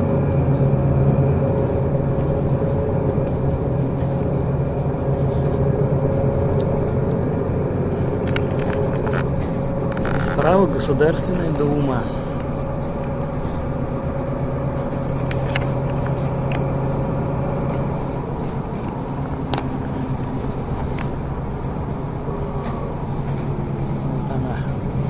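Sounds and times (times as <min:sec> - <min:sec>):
bus engine hum: 0:00.0 - 0:25.0
road noise: 0:00.0 - 0:25.0
whine: 0:00.0 - 0:25.0
light clicks and rattles: 0:01.5 - 0:25.0.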